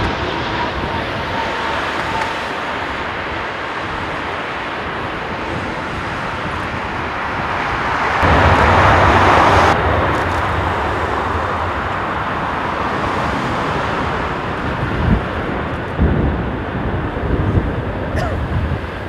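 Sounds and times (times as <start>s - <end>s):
jet airliner engines landing: 0.0s - 19.0s
wind rushing over microphone: 0.0s - 19.0s.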